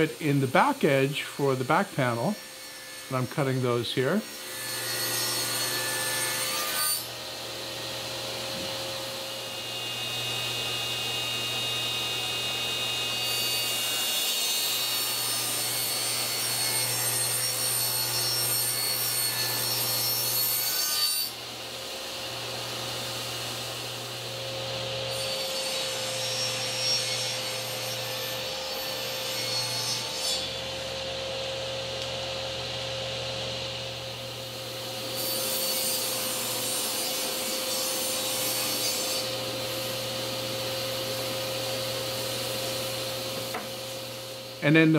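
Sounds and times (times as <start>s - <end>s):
table saw cutting plywood: 0.0s - 44.9s.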